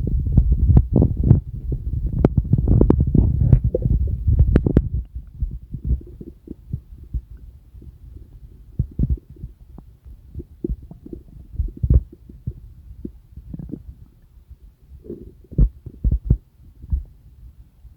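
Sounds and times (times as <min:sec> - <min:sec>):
stomach gurgling: 0:00.0 - 0:17.2.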